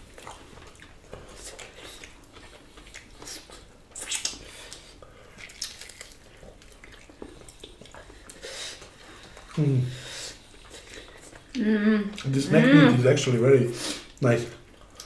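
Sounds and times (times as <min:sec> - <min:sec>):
people chewing: 0:00.0 - 0:15.0.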